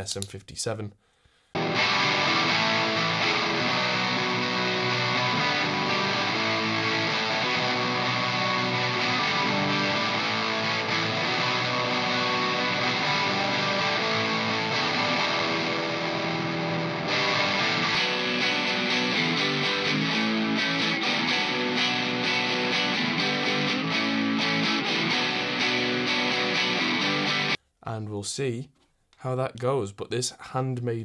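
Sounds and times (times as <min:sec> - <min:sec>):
distorted electric guitar: 0:01.6 - 0:27.6.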